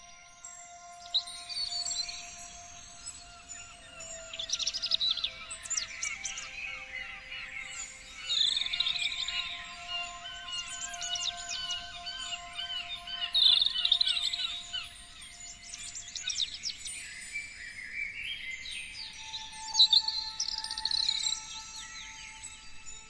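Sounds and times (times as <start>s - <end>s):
songbirds chirping and trilling: 0.0s - 23.0s.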